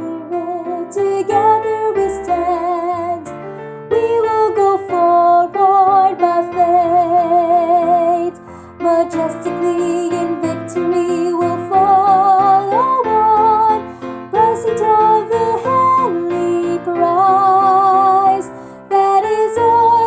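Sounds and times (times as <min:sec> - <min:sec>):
soprano singing with vibrato: 0:00.0 - 0:03.3, 0:03.9 - 0:20.0
piano accompaniment: 0:00.0 - 0:20.0.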